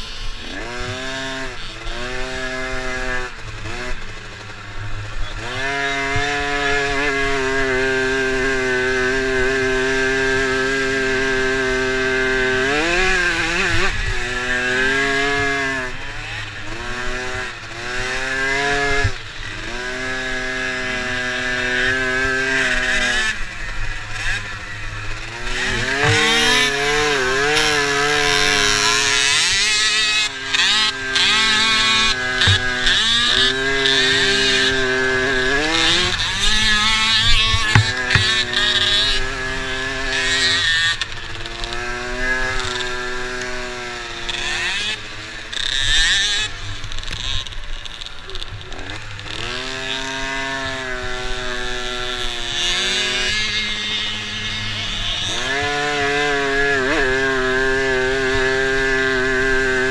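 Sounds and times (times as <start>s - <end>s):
dirt bike engine revving: 0.0s - 59.9s
second dirt bike engine: 0.0s - 59.9s.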